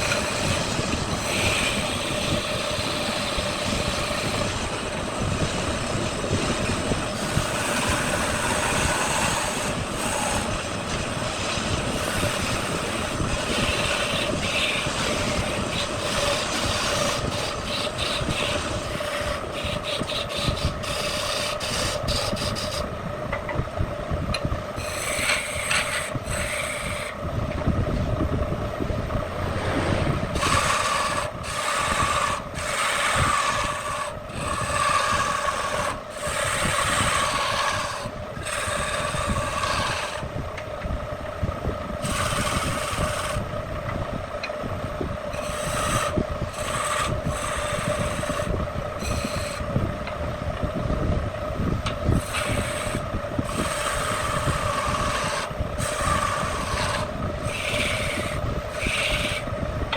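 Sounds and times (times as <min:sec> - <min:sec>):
tool scraping spinning wood: 0:00.0 - 0:23.6, 0:24.3 - 0:59.9
wood lathe humming: 0:00.0 - 0:59.9.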